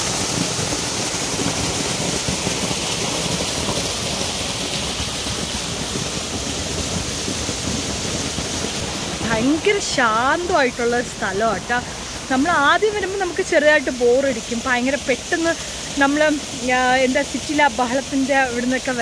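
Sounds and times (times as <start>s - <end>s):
water rushing: 0.0s - 19.0s.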